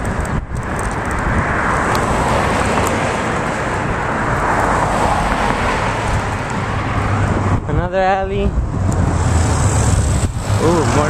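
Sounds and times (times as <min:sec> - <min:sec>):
road traffic noise: 0:00.0 - 0:11.0
wind rumble on microphone: 0:00.0 - 0:11.0
car passing: 0:00.7 - 0:11.0.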